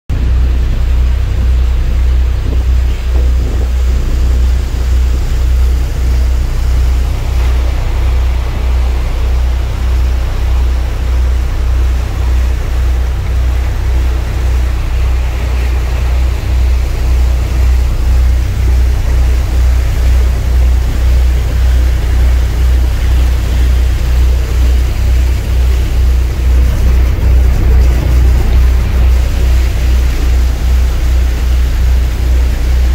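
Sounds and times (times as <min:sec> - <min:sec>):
boat engine rumble: 0:00.1 - 0:32.9
churning wake rushing: 0:00.1 - 0:32.9.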